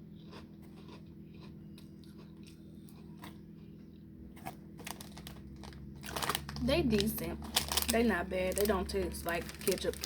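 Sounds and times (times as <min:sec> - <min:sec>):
crunchy chewing of snack: 0:00.0 - 0:10.0
steady low hum: 0:00.0 - 0:10.0.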